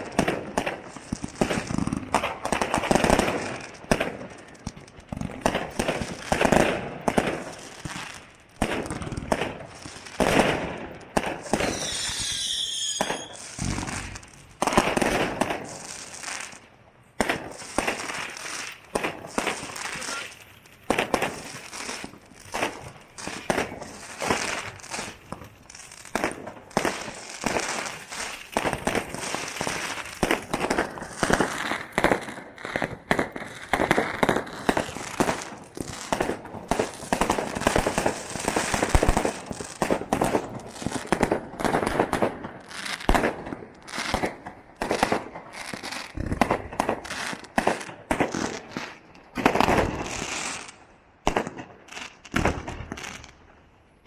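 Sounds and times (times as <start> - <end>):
fireworks bangs: 0.0 - 53.7
fireworks crackling and fizzing: 0.0 - 54.0.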